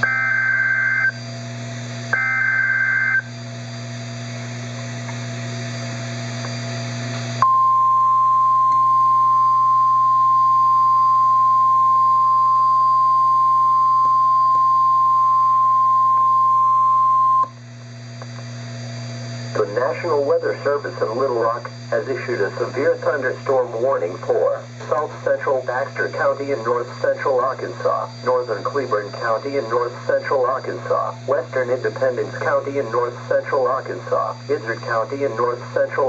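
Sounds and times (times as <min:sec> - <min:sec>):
steady warning alarm tone: 0:00.0 - 0:04.0, 0:07.4 - 0:17.5, 0:19.6 - 0:36.0
low radio hum: 0:00.0 - 0:36.0.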